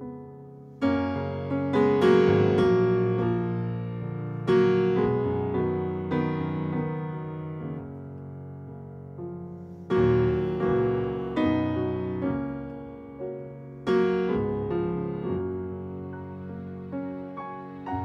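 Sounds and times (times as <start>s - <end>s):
loud piano chords: 0.0s - 18.0s
slow piano music: 0.0s - 18.0s.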